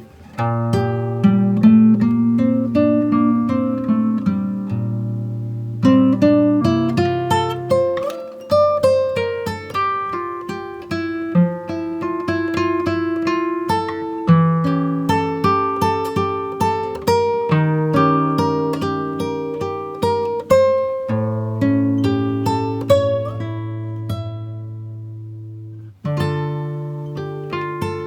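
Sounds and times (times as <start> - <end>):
acoustic guitar picking: 0.0 - 28.0.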